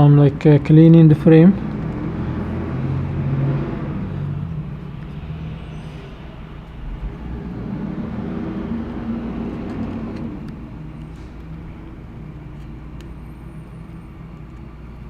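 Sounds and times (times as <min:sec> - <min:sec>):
hum: 0:01.6 - 0:15.0
low background rumble: 0:02.4 - 0:15.0.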